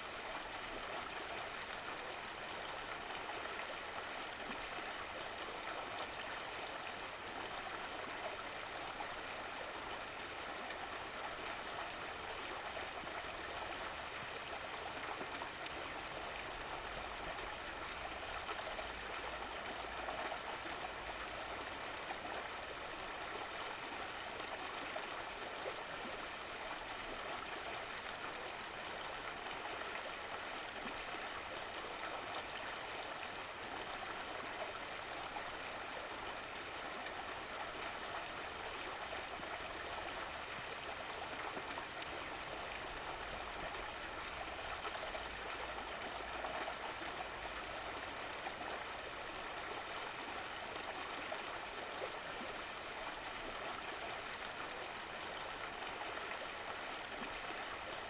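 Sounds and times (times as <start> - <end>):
stream burbling: 0.0 - 58.0.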